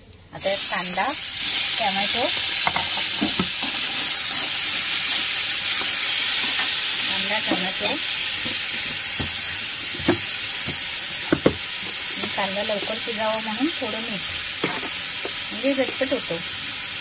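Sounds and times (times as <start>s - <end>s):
vegetables sizzling in oil: 0.3s - 17.0s.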